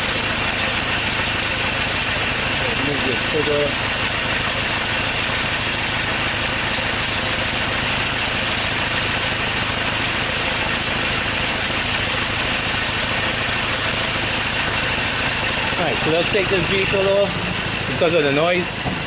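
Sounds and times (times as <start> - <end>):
diesel engine idling roughly: 0.0 - 19.0.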